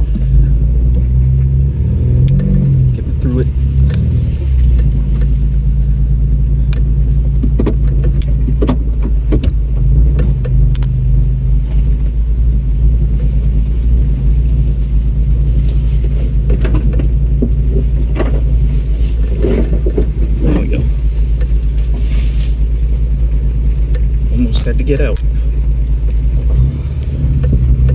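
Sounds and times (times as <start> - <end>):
knocks and rattles: 0.0 - 27.9
vehicle engine running: 0.0 - 27.9.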